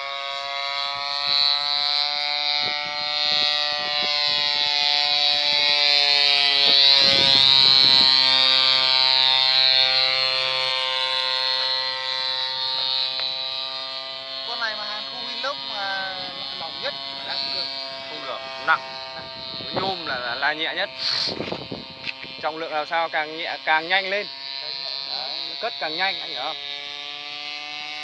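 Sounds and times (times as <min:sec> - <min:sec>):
small two-stroke engine drone: 0:00.0 - 0:28.0.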